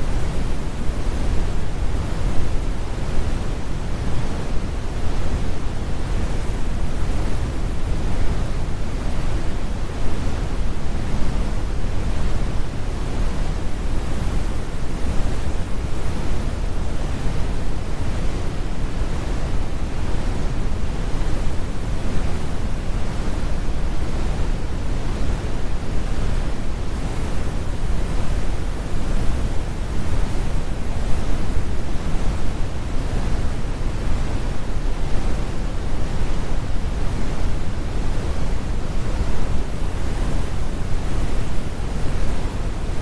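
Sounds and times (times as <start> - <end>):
deep brown noise rumble: 0.0 - 43.0.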